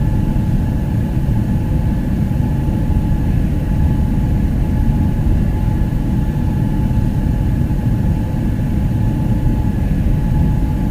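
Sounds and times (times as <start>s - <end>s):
faint jet engine whine: 0.0s - 10.9s.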